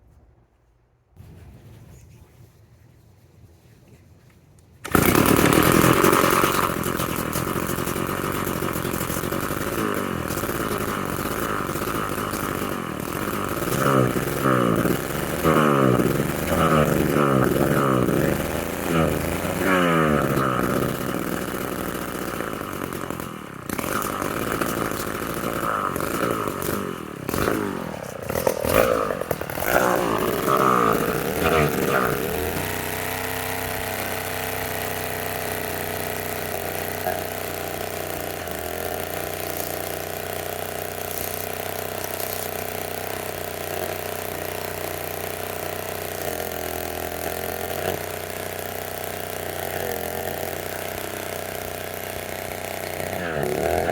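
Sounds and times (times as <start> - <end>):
chainsaw engine revving and idling: 4.8 - 53.9.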